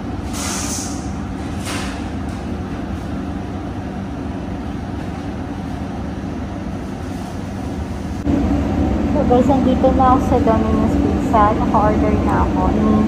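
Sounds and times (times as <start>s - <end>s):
air conditioning hum: 0.0s - 13.0s.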